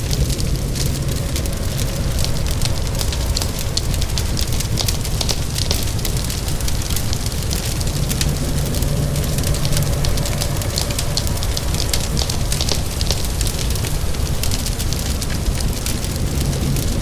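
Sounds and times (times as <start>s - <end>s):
low rumble: 0.0s - 17.0s
rain hissing: 0.0s - 17.0s
wood fire crackling and popping: 0.0s - 17.0s.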